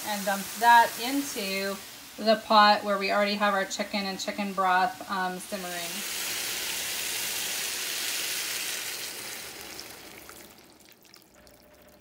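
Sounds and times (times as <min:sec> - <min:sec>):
water sizzling in hot pan: 0:00.0 - 0:12.0.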